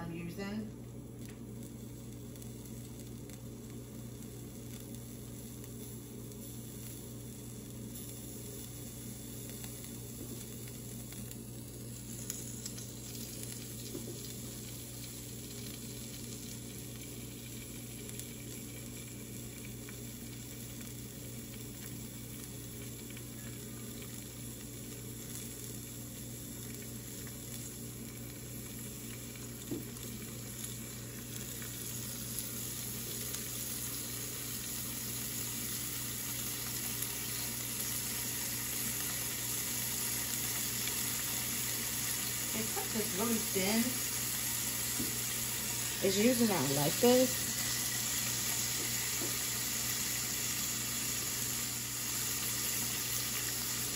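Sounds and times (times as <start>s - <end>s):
bacon sizzling in a pan: 0.0s - 53.9s.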